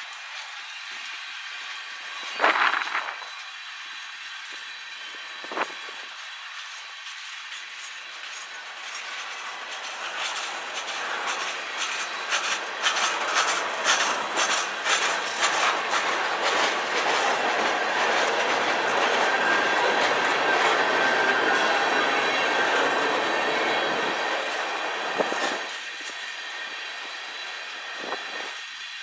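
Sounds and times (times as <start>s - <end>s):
freight train wheels clacking: 0.0s - 28.7s.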